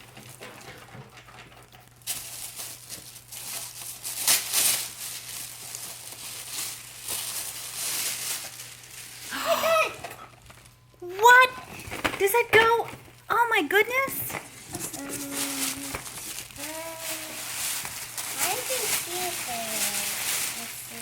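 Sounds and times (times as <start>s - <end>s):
gift wrapping tearing and crinkling: 0.0s - 21.0s.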